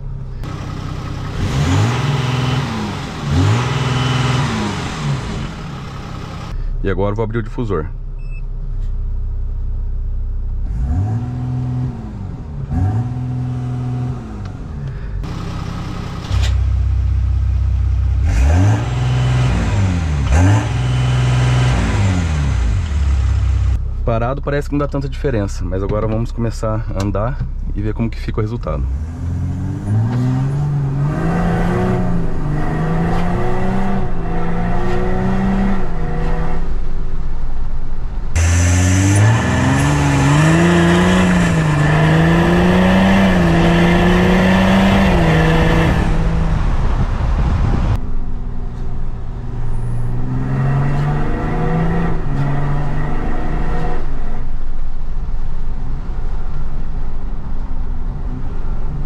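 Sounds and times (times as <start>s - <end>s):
wind and road noise: 0.0s - 6.8s, 10.6s - 59.0s
diesel engine accelerating: 0.0s - 7.7s, 9.2s - 59.0s.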